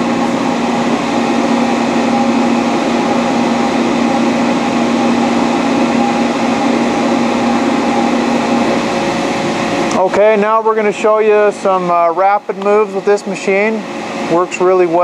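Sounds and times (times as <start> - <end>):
lathe running with steady hum: 0.0 - 15.0.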